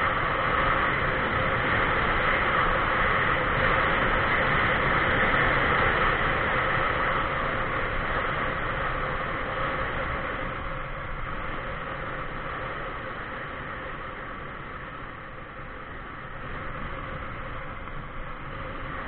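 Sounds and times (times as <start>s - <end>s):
faint steady hum: 0.0s - 19.0s
road noise on asphalt: 0.0s - 19.0s
rushing wind: 0.0s - 19.0s.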